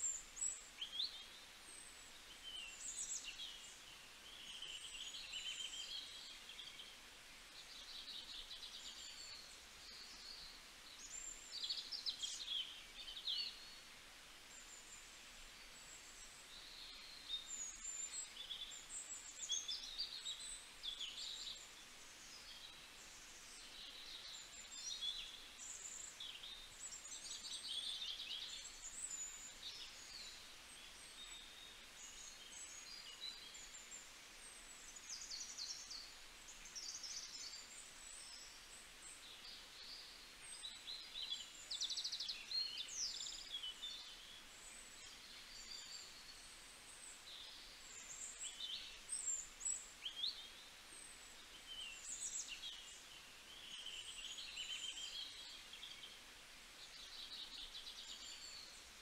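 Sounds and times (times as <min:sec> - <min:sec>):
faint steady hiss: 0:00.0 - 0:59.0
small birds chirping and trilling: 0:00.0 - 0:59.0.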